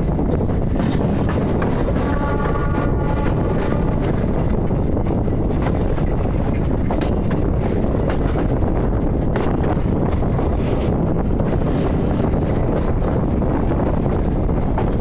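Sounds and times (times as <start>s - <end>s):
train wheels rumbling: 0.0s - 15.0s
wheels clacking on track: 0.0s - 15.0s
wind rushing on microphone: 0.0s - 15.0s.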